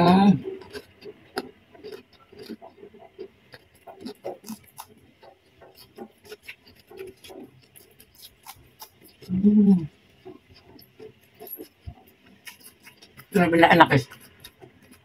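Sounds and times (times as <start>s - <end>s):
person chewing with crunches: 0.0s - 15.0s.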